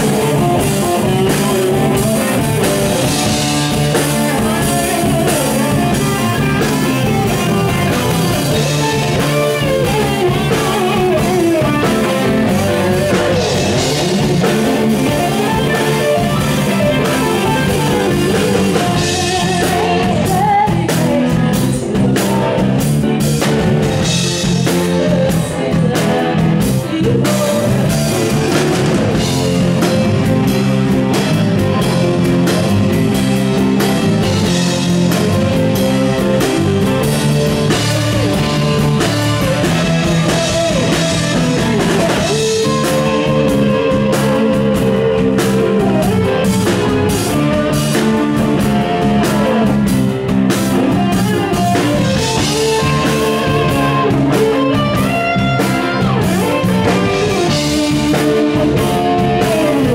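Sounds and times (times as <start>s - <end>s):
drum kit: 0.0s - 59.9s
electric bass: 0.0s - 59.9s
electric guitars: 0.0s - 59.9s
keyboards: 0.0s - 59.9s.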